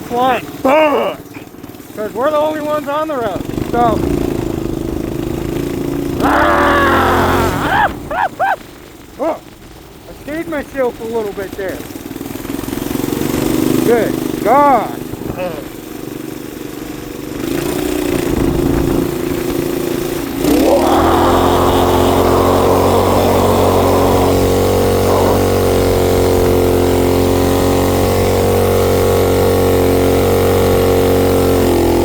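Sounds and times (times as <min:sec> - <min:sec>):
motorcycle engine revving: 0:00.0 - 0:09.7, 0:11.5 - 0:32.0.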